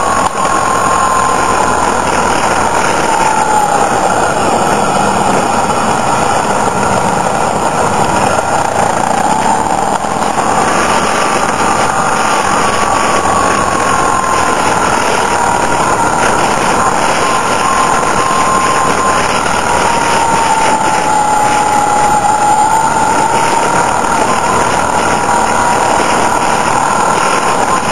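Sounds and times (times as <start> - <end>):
wind noise on microphone: 0.0 - 27.9.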